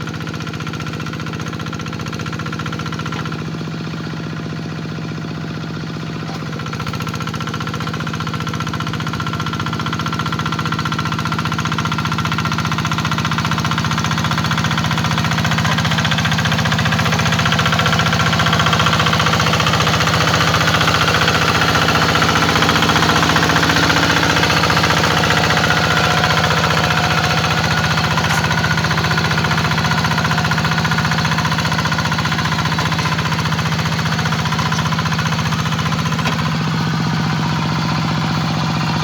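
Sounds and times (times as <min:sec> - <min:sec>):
diesel engine knocking: 0:00.0 - 0:39.0.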